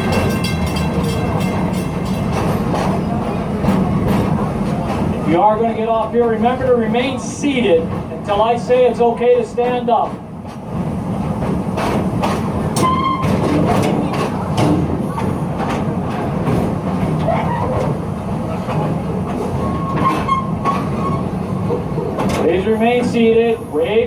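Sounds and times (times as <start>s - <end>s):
wheels clacking and knocking: 0.0s - 23.5s
train rumbling along track: 0.0s - 24.0s.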